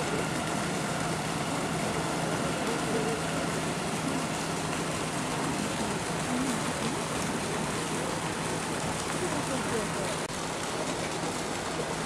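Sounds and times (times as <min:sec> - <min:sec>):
distant crowd murmuring: 0:00.0 - 0:12.0.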